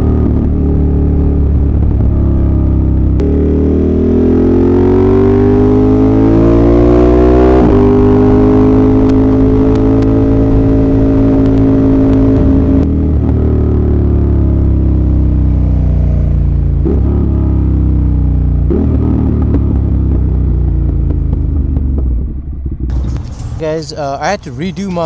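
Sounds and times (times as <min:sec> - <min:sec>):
motorcycle engine accelerating: 0:00.0 - 0:24.4.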